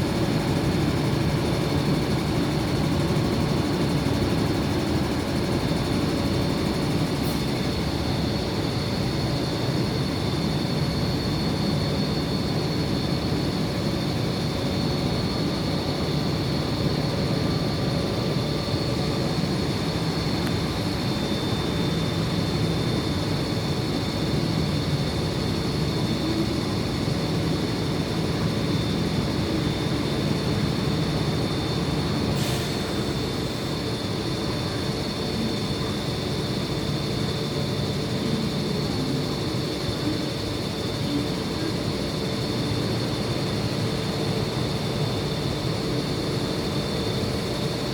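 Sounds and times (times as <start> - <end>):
electric train low rumble: 0.0 - 47.9
train high whine: 0.0 - 47.9.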